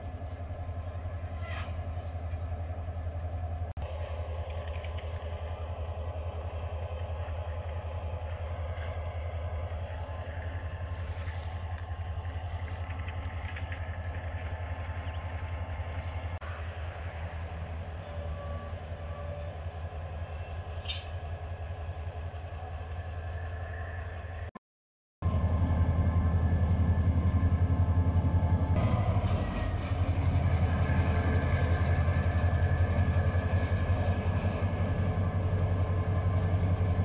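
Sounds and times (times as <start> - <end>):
locomotive engines rumbling: 0.0 - 24.5, 25.2 - 37.0.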